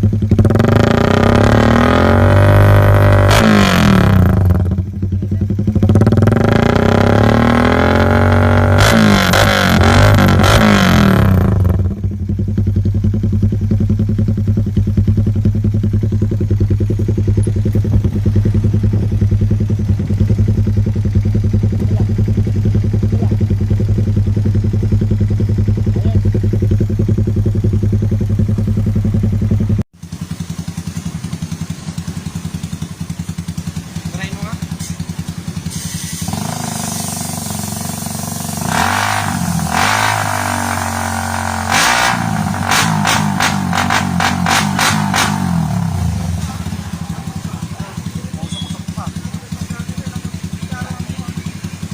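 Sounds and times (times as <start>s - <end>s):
motorcycle engine revving and idling: 0.0s - 51.9s.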